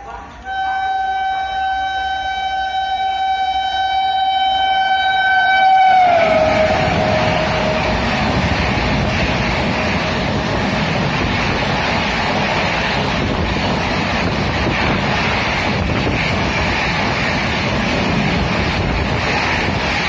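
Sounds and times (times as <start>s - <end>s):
train passing at high speed: 0.0s - 20.0s.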